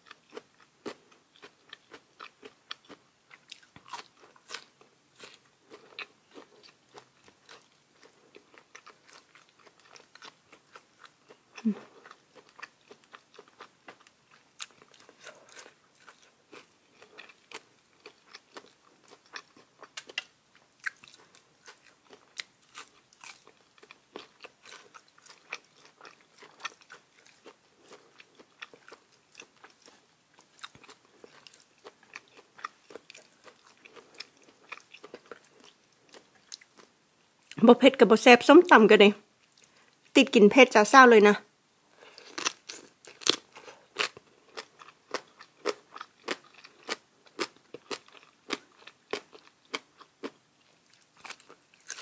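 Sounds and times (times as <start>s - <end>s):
person chewing crisp food: 0.0s - 37.6s, 39.4s - 40.1s, 42.0s - 52.0s.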